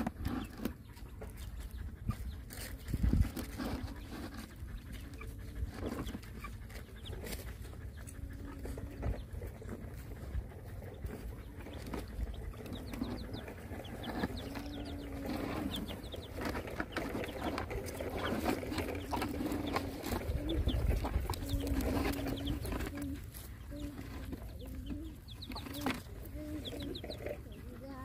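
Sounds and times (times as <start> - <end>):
chickens clucking: 0.0 - 28.0
chicks peeping: 0.0 - 28.0
puppies eating in plastic pipe: 0.0 - 28.0.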